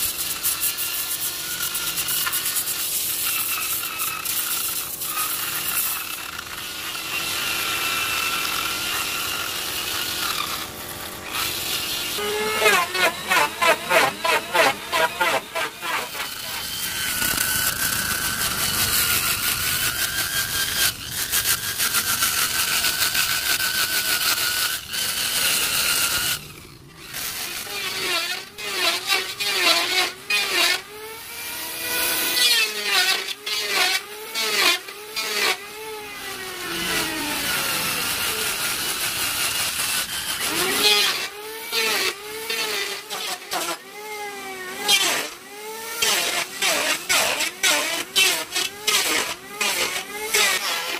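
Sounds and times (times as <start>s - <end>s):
angle grinder sanding wood: 0.0s - 50.9s.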